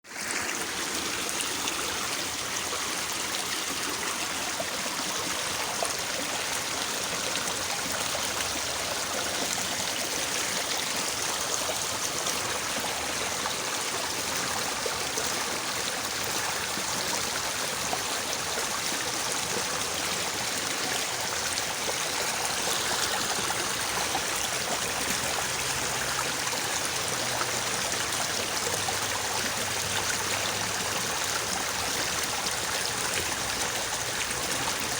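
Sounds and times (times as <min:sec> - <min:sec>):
river babbling over its bed: 0:00.0 - 0:34.9.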